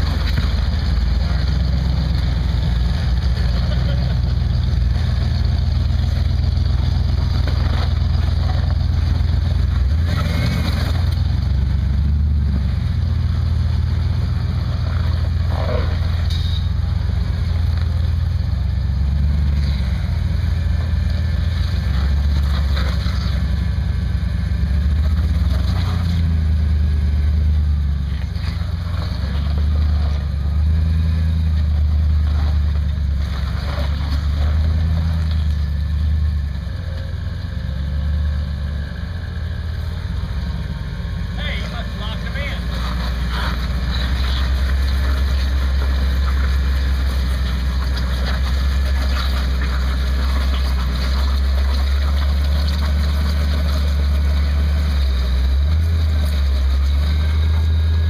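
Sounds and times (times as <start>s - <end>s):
engine running at low revs: 0.0s - 58.0s.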